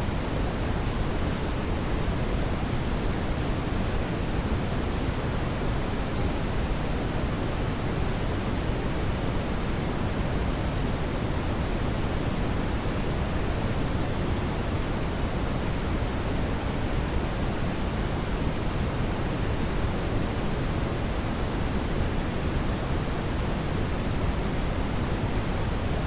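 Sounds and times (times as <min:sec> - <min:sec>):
brown noise hiss: 0:00.0 - 0:26.0.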